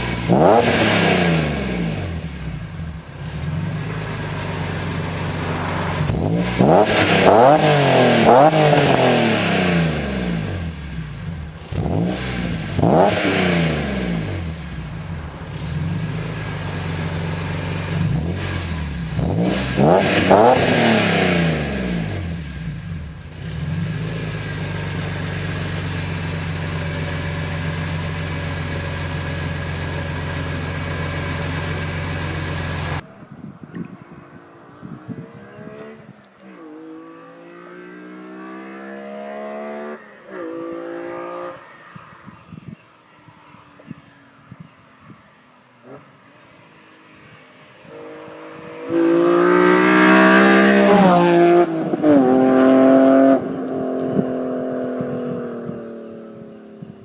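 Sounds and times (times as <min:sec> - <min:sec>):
car engine revving and idling: 0:00.0 - 0:33.1, 0:33.7 - 0:57.0.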